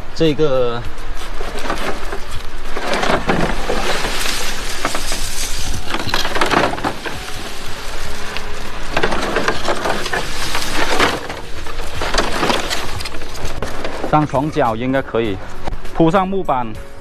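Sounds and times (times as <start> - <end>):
debris rustling and scraping: 0.7 - 16.2.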